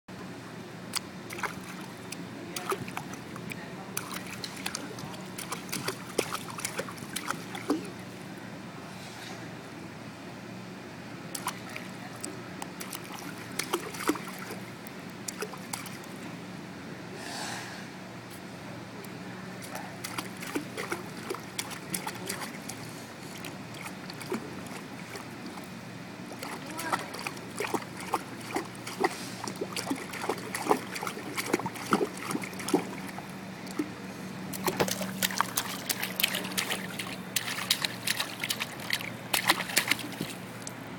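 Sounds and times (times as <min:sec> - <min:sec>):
steady low hum: 0:00.1 - 0:40.9
pool water splashing: 0:00.9 - 0:08.4, 0:11.2 - 0:16.4, 0:19.6 - 0:40.8.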